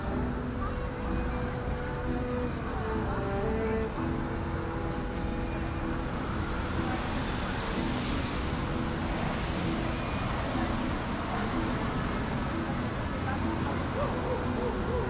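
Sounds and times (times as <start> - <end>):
faint voices of passers-by: 0.0 - 15.0
traffic: 0.0 - 15.0.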